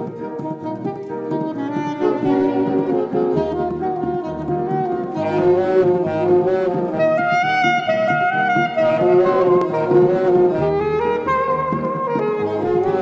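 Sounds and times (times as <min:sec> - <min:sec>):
piano accompaniment: 0:00.0 - 0:13.0
saxophone melody: 0:00.0 - 0:13.0.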